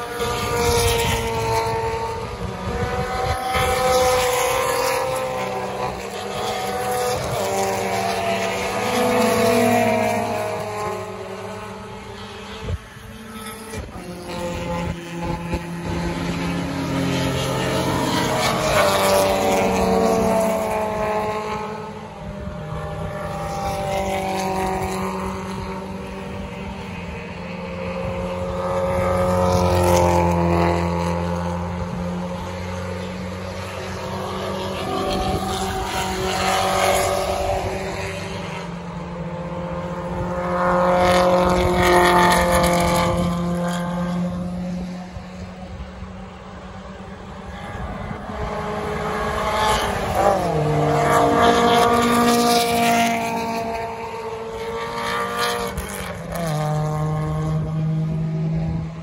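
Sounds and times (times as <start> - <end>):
race cars passing: 0.0 - 59.0.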